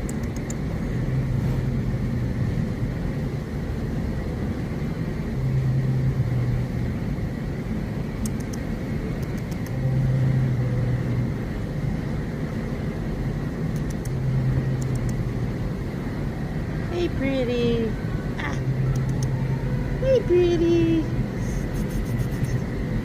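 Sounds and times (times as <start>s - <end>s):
low hum: 0.0s - 23.0s
steady low rumble: 0.0s - 23.0s.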